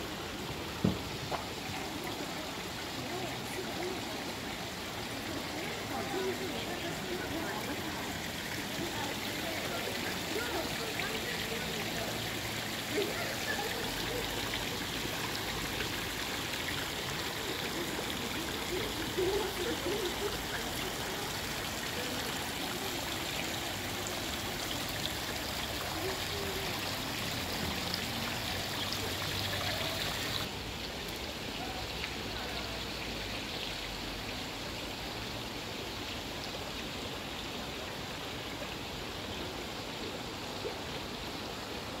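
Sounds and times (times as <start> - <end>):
water splashing into pond: 0.0 - 34.4.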